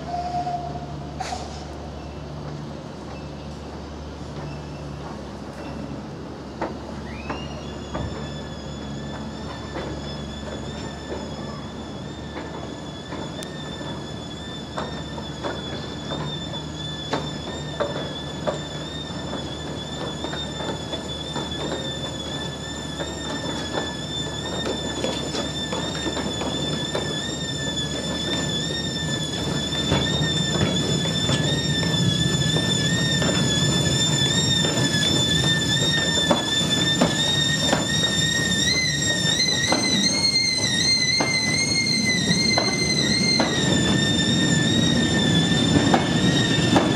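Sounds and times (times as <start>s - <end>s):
train clanks: 0.0s - 46.9s
train rumbling: 0.0s - 46.9s
wheels squealing: 0.0s - 46.9s.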